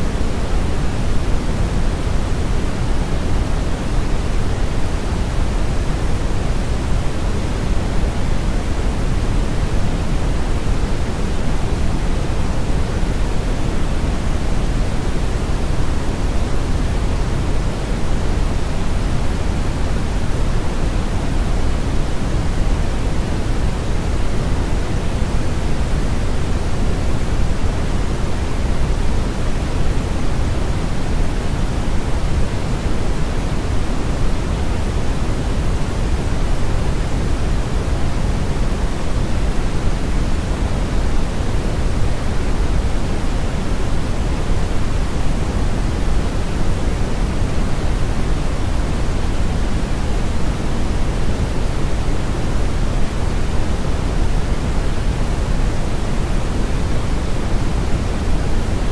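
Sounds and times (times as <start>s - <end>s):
steady brown noise: 0.0s - 58.9s.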